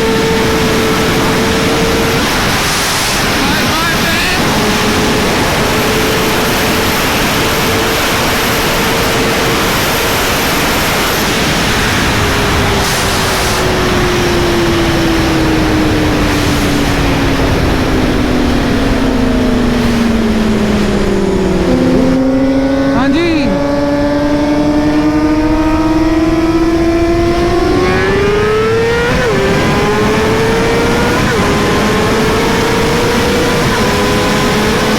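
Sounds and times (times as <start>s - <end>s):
motorcycle engine running: 0.0s - 34.9s
wind rush on microphone: 0.0s - 34.9s.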